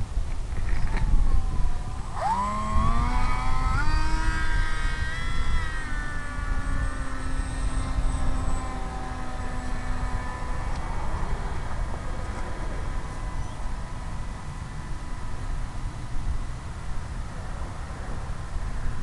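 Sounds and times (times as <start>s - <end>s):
model plane electric motor spinning: 0.3s - 17.4s.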